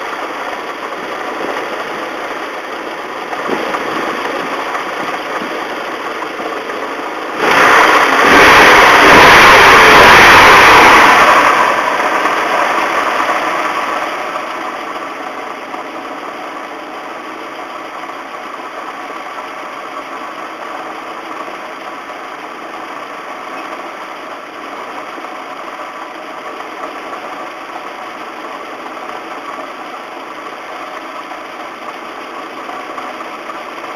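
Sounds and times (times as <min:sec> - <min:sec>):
car engine revving and idling: 0:00.0 - 0:33.9.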